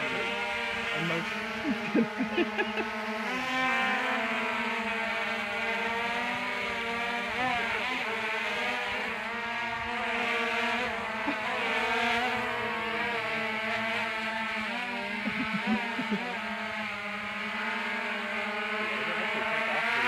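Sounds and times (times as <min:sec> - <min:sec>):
drone rotors buzzing: 0:00.0 - 0:20.0.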